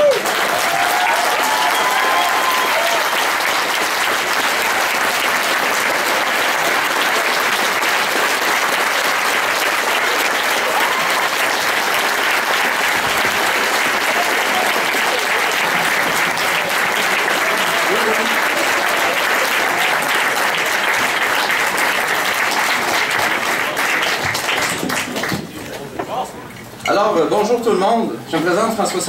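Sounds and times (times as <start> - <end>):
audience applause: 0.0 - 25.6.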